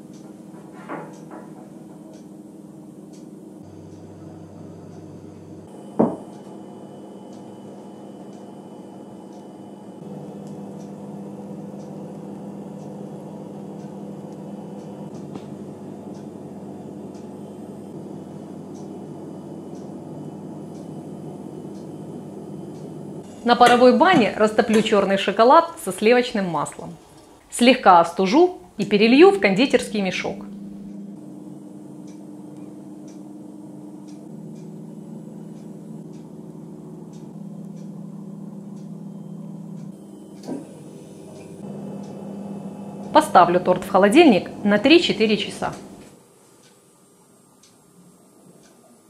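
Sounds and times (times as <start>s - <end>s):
low mechanical hum: 0.0s - 49.0s.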